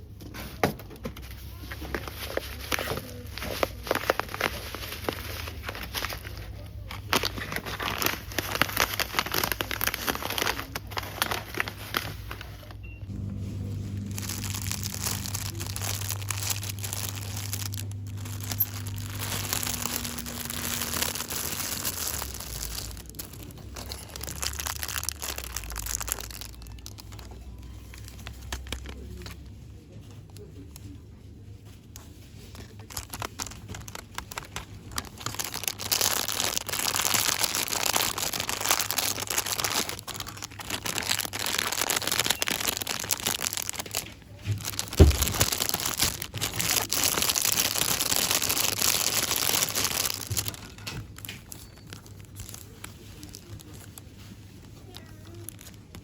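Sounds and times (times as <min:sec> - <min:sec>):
packaging crinkling by hand: 0:00.0 - 0:56.0.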